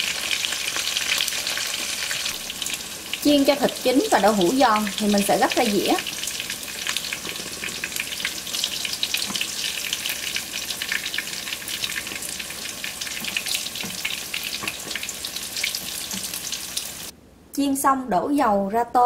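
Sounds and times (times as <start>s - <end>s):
hot oil sizzling: 0.0s - 17.1s.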